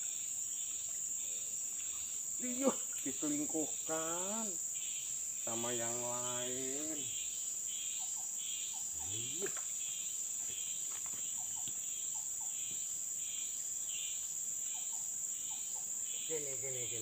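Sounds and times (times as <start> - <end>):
insects droning: 0.0 - 17.0
pulsing insect chirp: 0.0 - 17.0.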